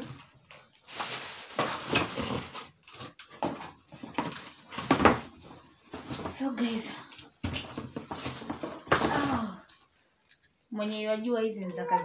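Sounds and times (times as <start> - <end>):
plastic and cardboard packaging rustling: 0.0 - 10.0.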